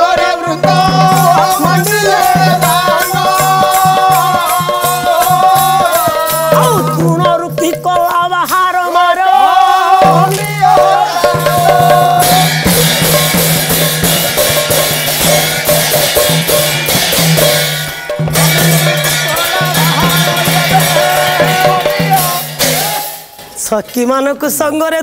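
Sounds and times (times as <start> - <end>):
drum and cymbals rhythm: 0.0 - 24.8.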